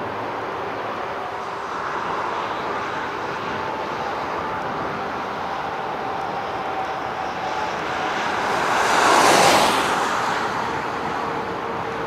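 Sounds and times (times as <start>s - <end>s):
distant jet engine: 0.0s - 12.0s
faint engine whine: 0.0s - 12.0s
strong wind on microphone: 0.0s - 12.0s.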